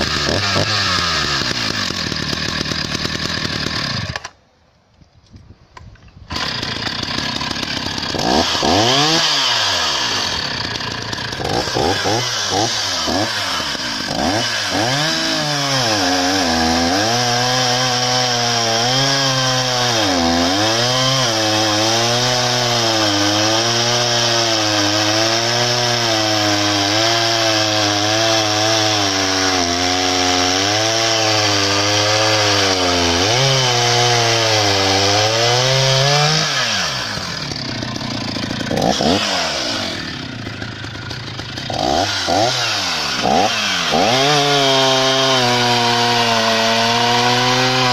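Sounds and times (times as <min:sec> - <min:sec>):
chainsaw cutting logs: 0:00.0 - 0:04.5, 0:05.8 - 0:47.9.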